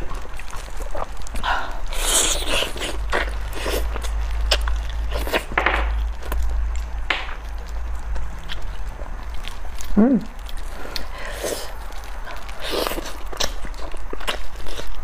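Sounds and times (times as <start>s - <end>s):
chewing and lip smacking: 0.0s - 15.0s
steady low hum: 0.0s - 15.0s.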